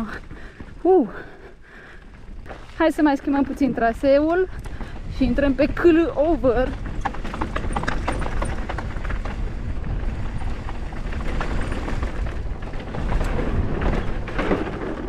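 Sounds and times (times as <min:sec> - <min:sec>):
bike tyres on dirt and stones: 0:00.0 - 0:15.0
low rumble: 0:00.0 - 0:15.0
bike clattering over bumps: 0:01.7 - 0:15.0.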